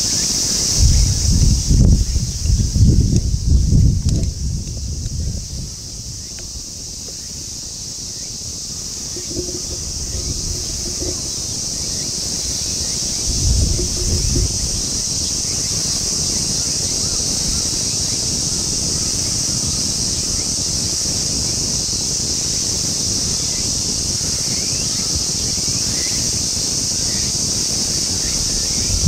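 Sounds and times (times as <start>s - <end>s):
steady high hiss: 0.0s - 29.0s
wind buffeting microphone: 0.0s - 29.0s.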